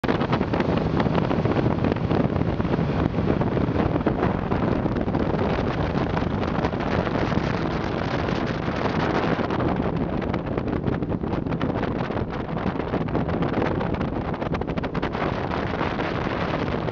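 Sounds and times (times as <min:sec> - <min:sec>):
speedboat engine drone: 0:00.0 - 0:16.9
wind buffeting microphone: 0:00.0 - 0:16.9.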